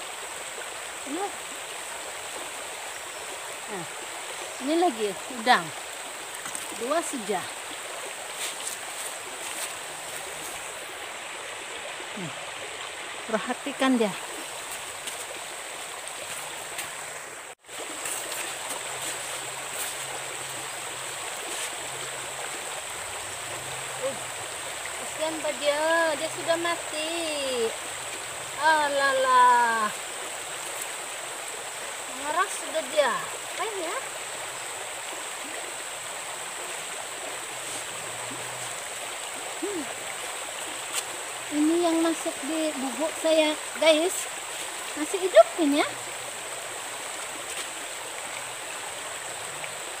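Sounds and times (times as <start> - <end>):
stream running over rocks: 0.0 - 50.0.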